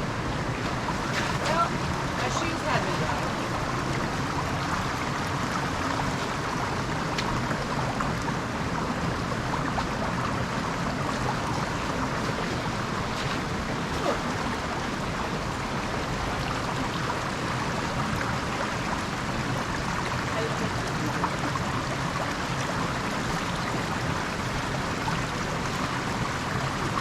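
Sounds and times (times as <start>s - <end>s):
creek water running: 0.0s - 27.0s.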